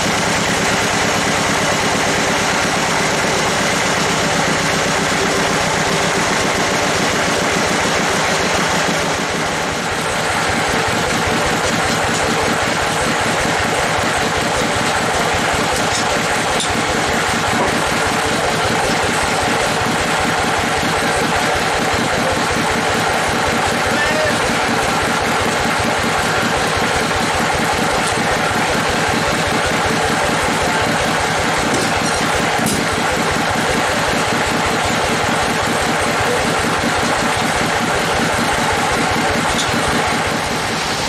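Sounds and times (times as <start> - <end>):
engine idling with fast pulsing: 0.0 - 41.0.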